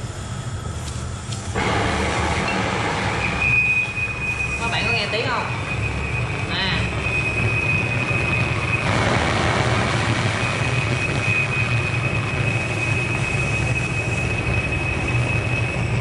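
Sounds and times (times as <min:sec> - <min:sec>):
blowtorch burning: 0:00.0 - 0:16.0
high whistle: 0:02.4 - 0:16.0.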